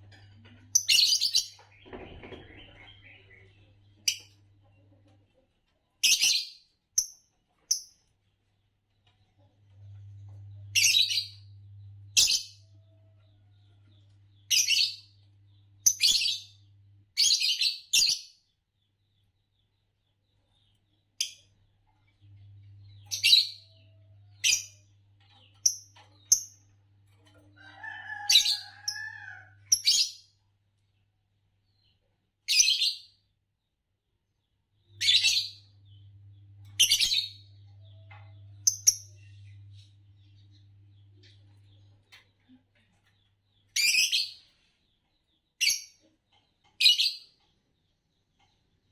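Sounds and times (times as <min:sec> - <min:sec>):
lovebirds chirping: 0:00.0 - 0:05.2, 0:09.8 - 0:26.8, 0:27.4 - 0:30.4, 0:34.8 - 0:48.9.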